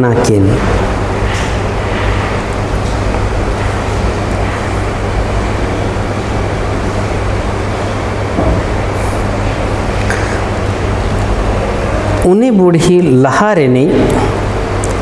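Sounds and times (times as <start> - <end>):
low hum: 0.0 - 15.0
steady background noise: 0.0 - 15.0.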